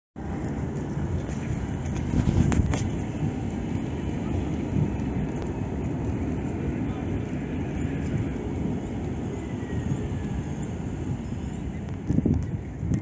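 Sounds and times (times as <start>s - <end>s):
tram rumbling: 0.2s - 13.0s
wind on microphone: 0.2s - 13.0s.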